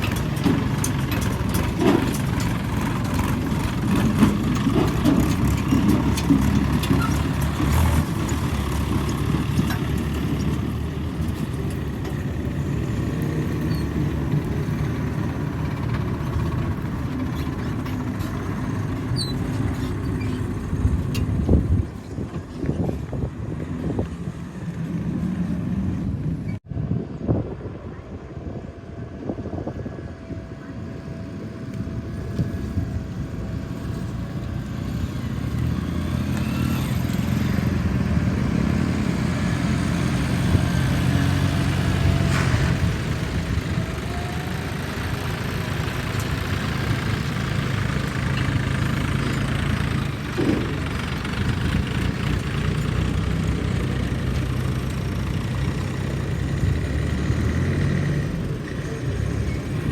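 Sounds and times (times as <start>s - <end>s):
diesel engine running: 0.0s - 26.6s, 27.6s - 59.9s.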